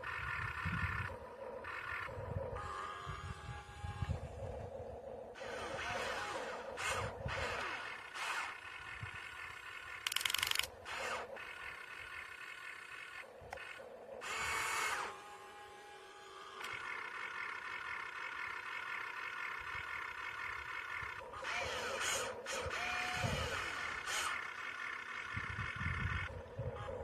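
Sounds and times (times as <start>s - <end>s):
toy electric motor whine: 0.0s - 4.7s, 5.3s - 27.0s
gear grinding bursts: 5.3s - 27.0s.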